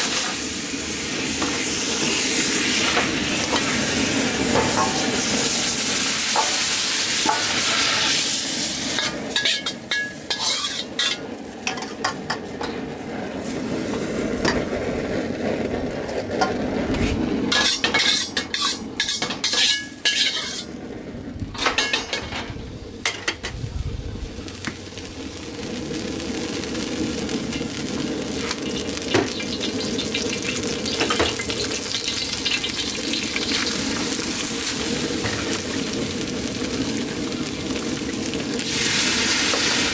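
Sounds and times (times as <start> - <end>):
food sizzling in a wok: 0.0 - 39.9.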